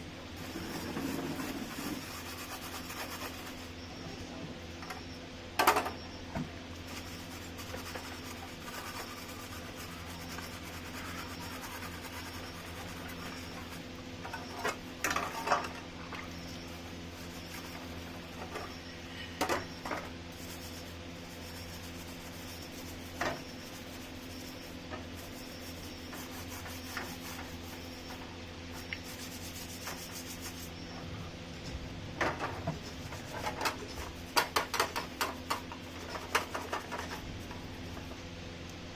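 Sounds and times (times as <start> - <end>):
fan parts handled and rubbed: 0.0 - 3.8, 6.8 - 38.2
steady low hum: 0.0 - 38.9.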